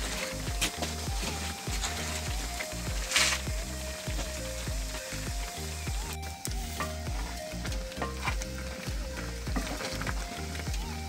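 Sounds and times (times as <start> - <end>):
background music with steady beat: 0.0 - 11.0
jam boiling and bubbling: 0.0 - 11.0.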